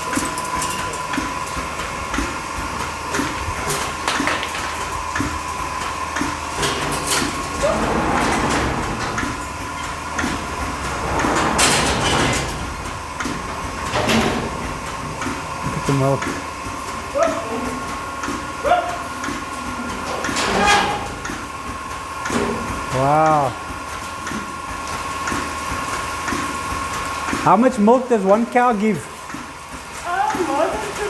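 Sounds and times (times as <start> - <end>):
milking machine pulsing whine: 0.0 - 31.0.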